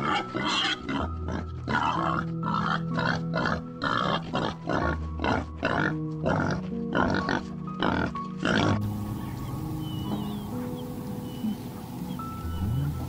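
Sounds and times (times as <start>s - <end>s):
background music with sustained notes: 0.0s - 13.0s
young boars grunting: 0.0s - 13.0s.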